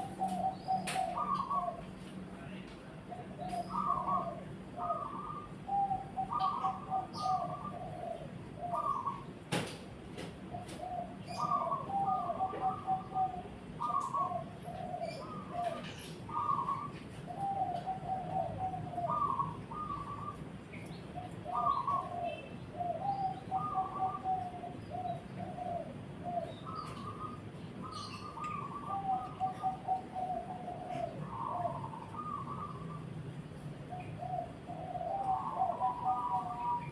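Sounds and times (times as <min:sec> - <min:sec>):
doves cooing: 0:00.0 - 0:36.9.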